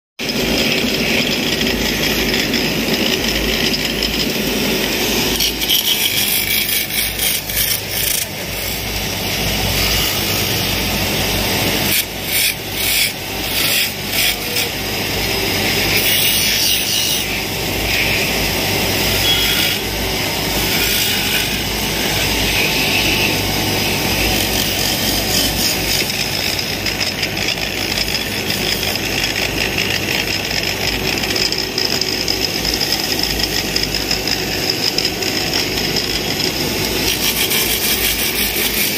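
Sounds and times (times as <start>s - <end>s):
turning tool scraping wood: 0.2s - 10.8s, 11.4s - 14.8s, 15.7s - 38.9s
wood lathe motor hum: 0.2s - 38.9s.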